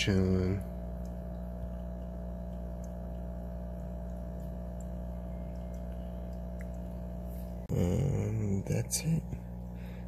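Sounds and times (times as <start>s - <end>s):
aquarium pump humming: 0.0s - 10.0s
water circulating: 0.0s - 10.0s.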